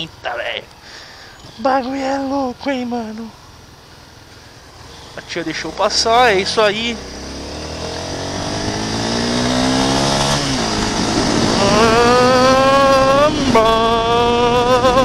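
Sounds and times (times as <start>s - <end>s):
motorcycle engine accelerating: 1.5s - 15.0s.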